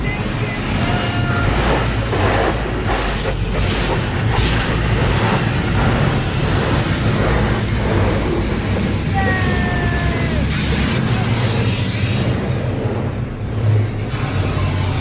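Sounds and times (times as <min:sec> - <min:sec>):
low mechanical rumble: 0:00.0 - 0:15.0
water spraying against car: 0:00.0 - 0:15.0.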